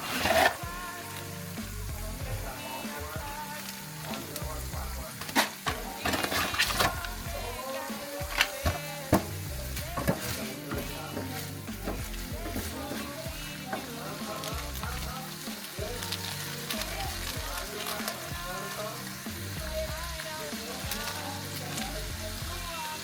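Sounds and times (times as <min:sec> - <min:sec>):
meat sizzling in frying pan: 0:00.0 - 0:23.0
utensil stirring in pan: 0:00.0 - 0:23.0.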